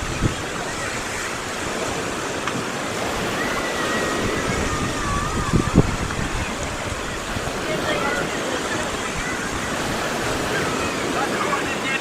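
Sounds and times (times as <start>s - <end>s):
small waves washing in: 0.0s - 12.0s.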